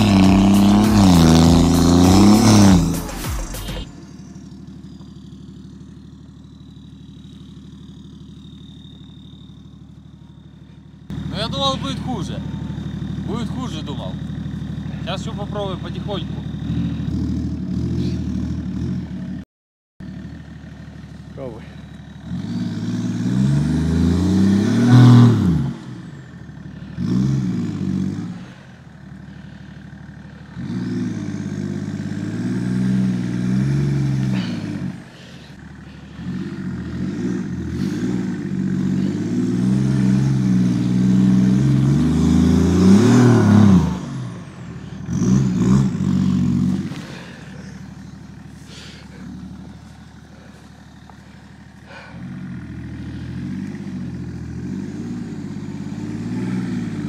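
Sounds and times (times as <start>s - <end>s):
diesel car engine revving: 0.0s - 19.4s, 20.0s - 57.0s.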